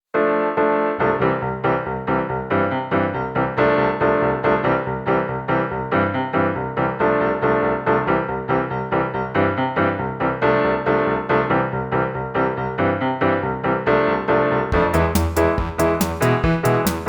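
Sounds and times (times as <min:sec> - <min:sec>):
bouncy piano tune: 0:00.1 - 0:17.0.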